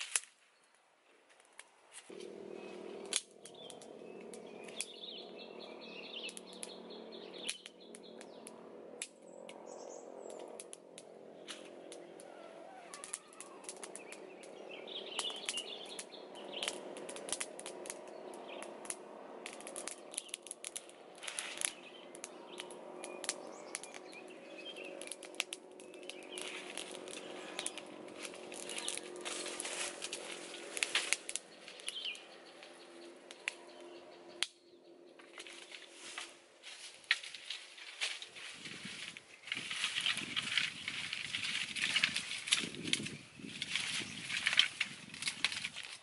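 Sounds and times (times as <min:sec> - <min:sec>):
birds chirping: 0:00.0 - 0:46.0
wood fire crackling and popping: 0:03.0 - 0:05.0, 0:06.2 - 0:09.6, 0:10.2 - 0:33.6, 0:35.3 - 0:46.0.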